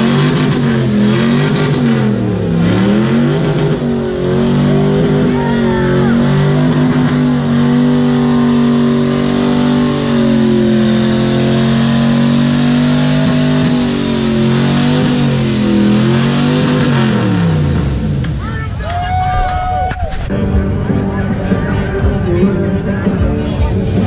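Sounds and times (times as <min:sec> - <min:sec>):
vehicle engine running hard: 0:00.0 - 0:18.8, 0:19.8 - 0:24.0.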